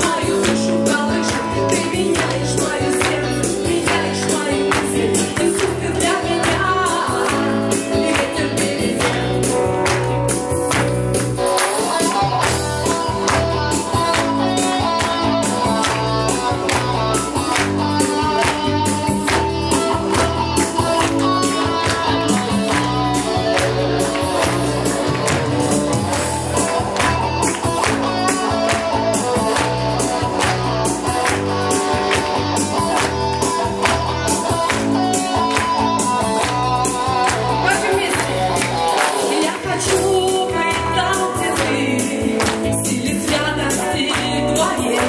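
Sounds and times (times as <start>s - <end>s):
instrumental band music: 0.0s - 45.0s.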